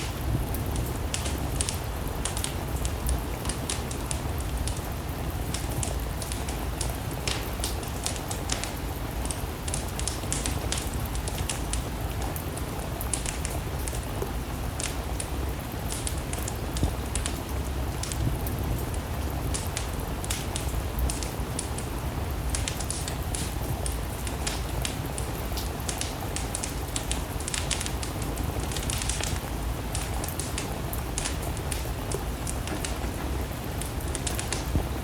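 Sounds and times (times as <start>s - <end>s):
steady rain: 0.0s - 35.0s
wood fire crackling: 0.0s - 35.0s.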